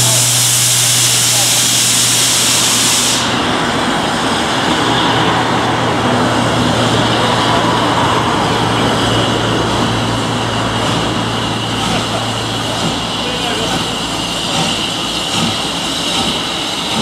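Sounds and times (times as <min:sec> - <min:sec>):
steam locomotive hissing: 0:00.0 - 0:17.0
steady low rumbling: 0:03.2 - 0:17.0.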